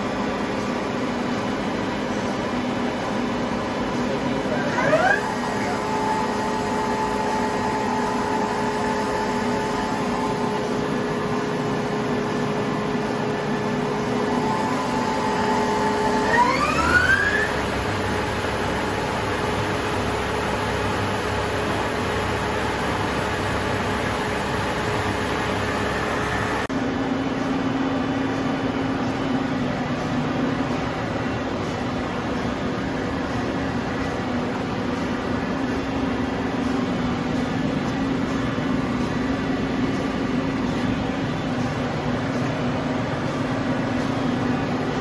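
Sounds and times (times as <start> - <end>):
lathe humming and whining: 0.0 - 45.0.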